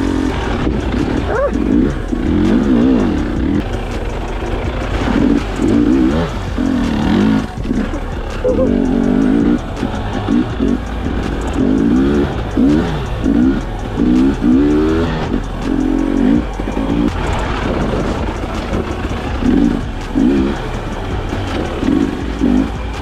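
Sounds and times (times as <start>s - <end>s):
background music: 0.0s - 23.0s
dirt bike engine revving: 0.0s - 23.0s.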